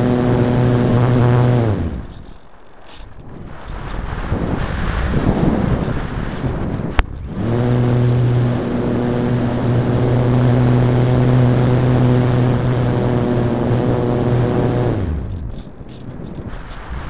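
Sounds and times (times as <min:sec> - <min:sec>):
model glider motor and propeller: 0:00.0 - 0:17.0
wind rushing past microphone: 0:00.0 - 0:17.0.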